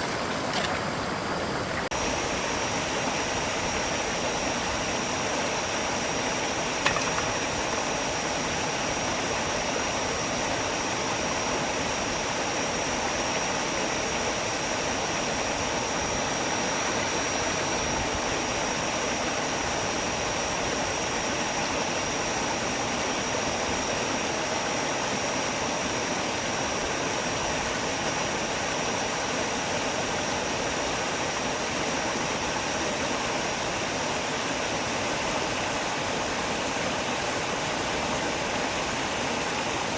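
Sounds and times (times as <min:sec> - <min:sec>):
stream water rushing: 0:00.0 - 0:39.9
high-pitched whine: 0:01.9 - 0:39.9.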